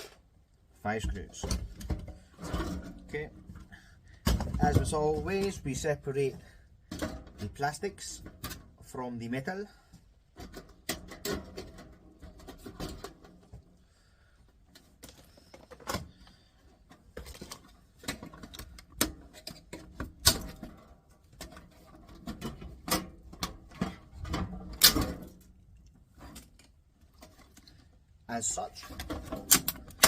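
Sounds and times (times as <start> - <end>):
clicks and clatter of plastic parts: 1.0 - 8.9, 10.3 - 13.8, 14.7 - 28.0, 28.7 - 30.0.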